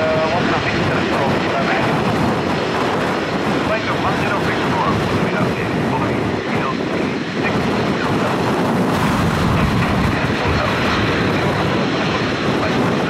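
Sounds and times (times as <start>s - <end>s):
turboprop engine running: 0.0s - 13.0s.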